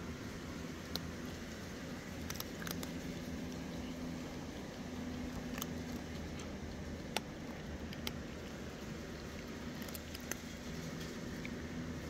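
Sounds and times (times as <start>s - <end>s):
cats crunching dry kibble: 0.0s - 12.0s
steady low hum: 0.0s - 12.0s.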